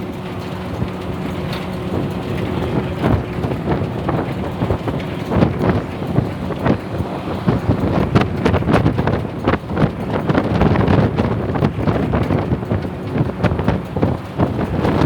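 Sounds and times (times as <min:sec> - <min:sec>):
bus engine and road noise: 0:00.0 - 0:15.0
wind buffeting microphone: 0:00.0 - 0:15.0
bodywork rattling and knocking: 0:00.1 - 0:15.0.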